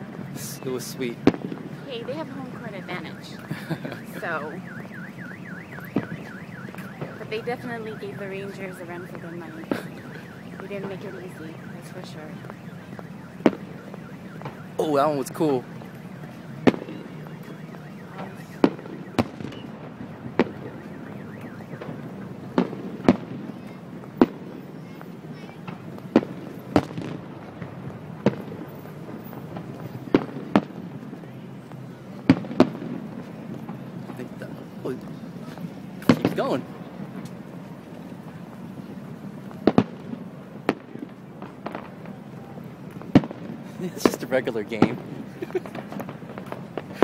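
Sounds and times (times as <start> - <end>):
fireworks bursting: 0.0 - 47.0.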